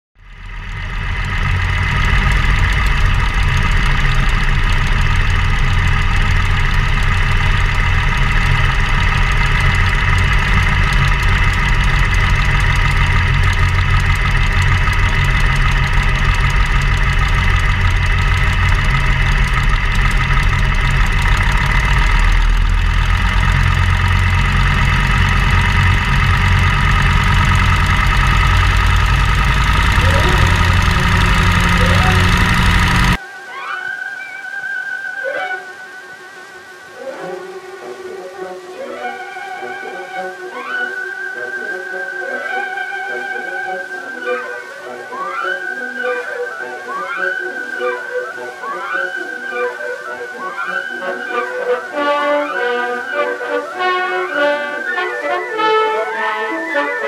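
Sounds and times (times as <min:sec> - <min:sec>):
radial aircraft engine idling: 0:00.2 - 0:33.2, 0:39.0 - 0:57.0.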